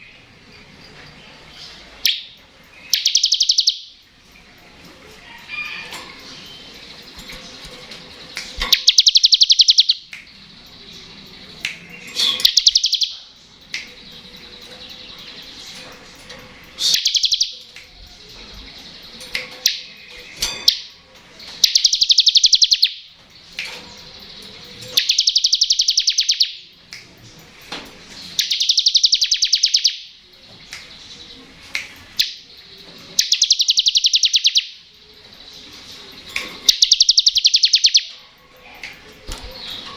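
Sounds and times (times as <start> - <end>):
soft bird chirps: 0.0 - 39.9
bird rattling trills: 1.7 - 26.6, 32.0 - 39.9.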